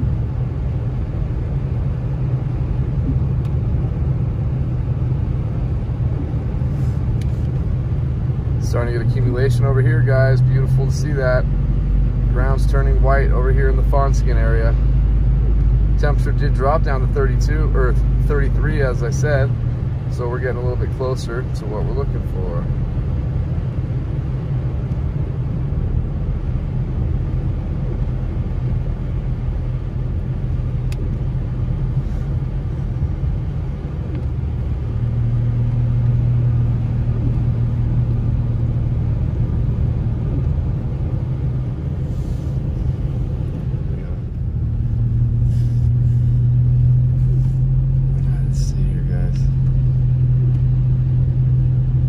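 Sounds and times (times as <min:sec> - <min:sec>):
car engine hum: 0:00.0 - 0:52.0
road rumble: 0:00.0 - 0:52.0.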